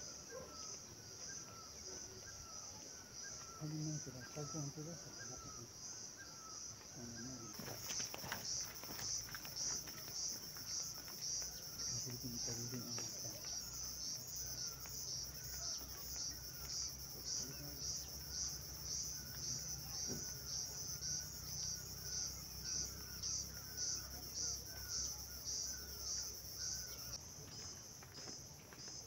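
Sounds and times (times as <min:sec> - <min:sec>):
insects chirping in pulses: 0:00.0 - 0:29.0.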